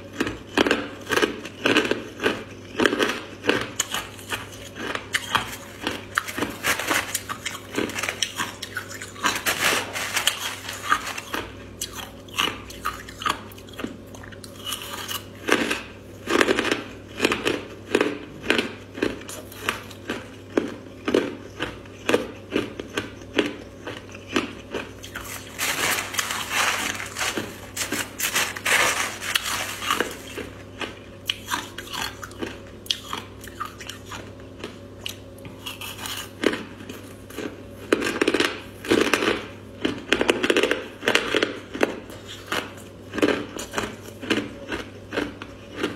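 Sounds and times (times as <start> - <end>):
ice being crunched and chewed: 0.0 - 45.9.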